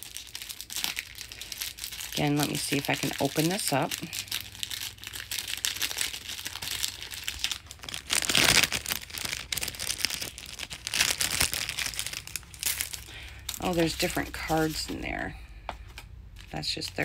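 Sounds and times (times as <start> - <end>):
plastic wrapper crinkling and tearing: 0.0 - 15.2.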